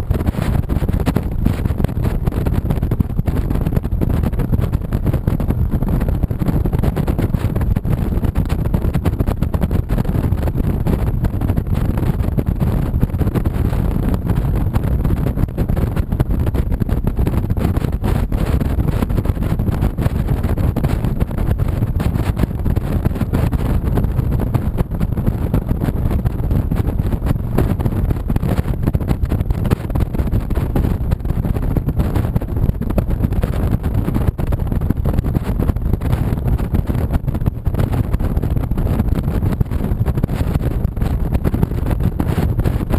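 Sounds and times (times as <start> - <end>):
wind rushing on microphone: 0.0 - 42.9.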